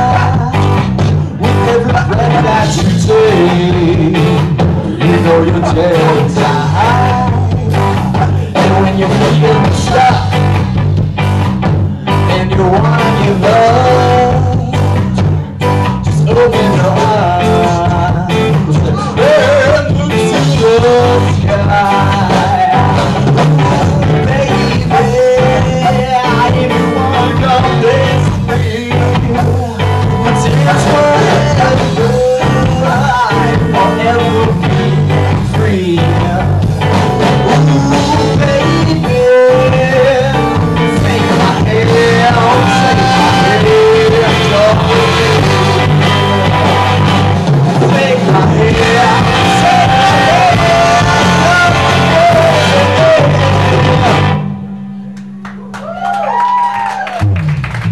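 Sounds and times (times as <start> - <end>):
person singing: 0.0 - 10.7, 11.8 - 54.7
live ska band playing: 0.0 - 57.9.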